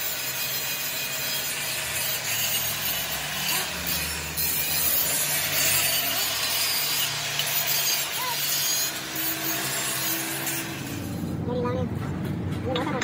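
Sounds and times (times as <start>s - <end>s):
angle grinder grinding steel: 0.0s - 11.4s.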